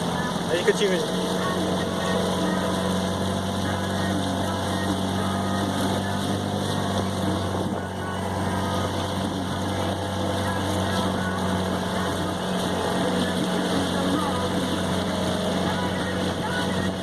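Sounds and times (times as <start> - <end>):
water noise: 0.0 - 17.0.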